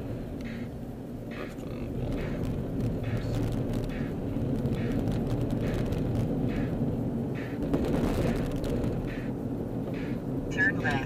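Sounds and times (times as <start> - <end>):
engine and road rumble: 0.0 - 11.0
rush of road noise: 0.0 - 11.0
turn signal ticking: 0.0 - 11.0.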